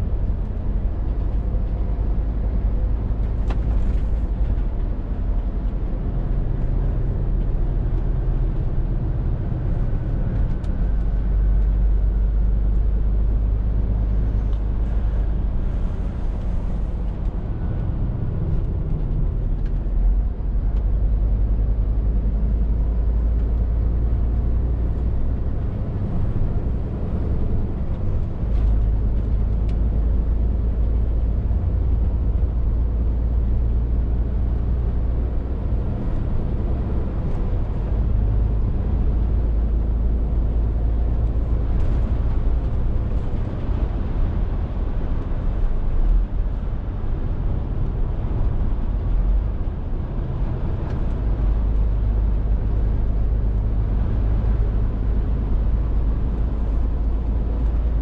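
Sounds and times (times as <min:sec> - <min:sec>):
diesel lorry engine running: 0:00.0 - 0:58.0.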